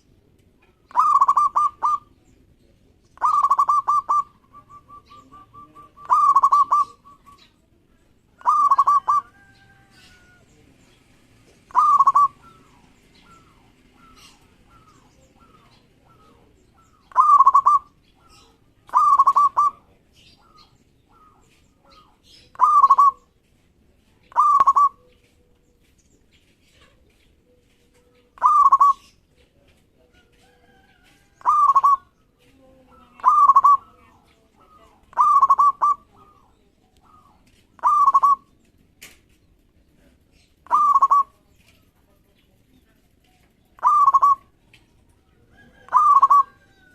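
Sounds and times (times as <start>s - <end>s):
dove trilled coos: 0.0s - 23.4s, 24.2s - 25.8s, 26.7s - 38.8s, 40.4s - 41.7s, 43.7s - 46.9s
soft bird chirping: 0.0s - 46.9s.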